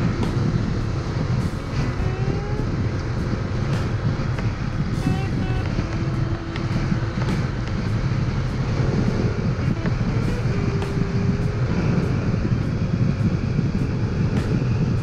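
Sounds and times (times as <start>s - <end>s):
scooter engine cruising: 0.0s - 15.0s
wind buffeting microphone: 0.0s - 15.0s.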